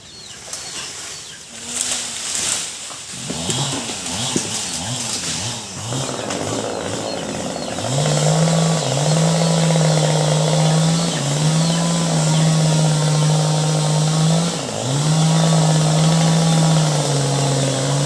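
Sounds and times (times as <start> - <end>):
chainsaw engine revving: 1.6 - 18.0.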